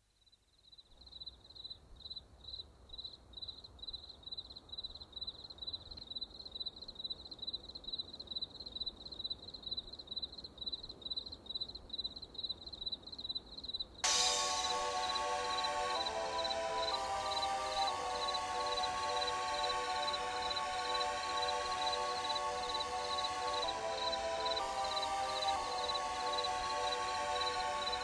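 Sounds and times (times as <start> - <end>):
cricket chirping: 0.1 - 28.0.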